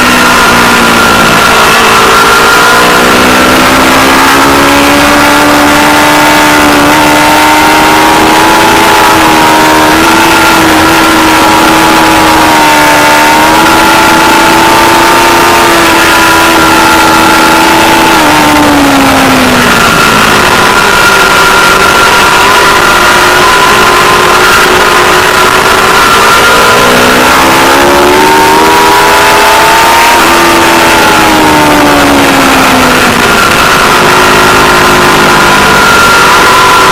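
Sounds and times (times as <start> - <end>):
loud rushing noise: 0.0 - 36.9
motorcycle engine revving high: 0.0 - 36.9.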